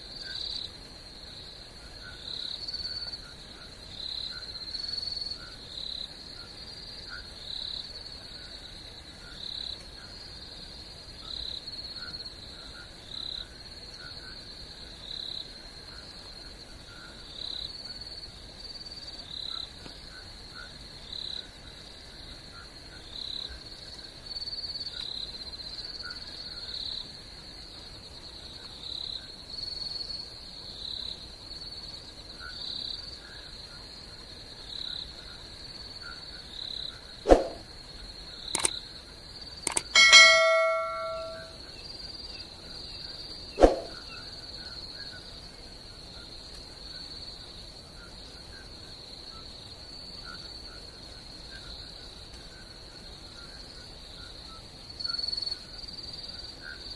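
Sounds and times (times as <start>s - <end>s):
faint lower insect calls: 0.0s - 56.9s.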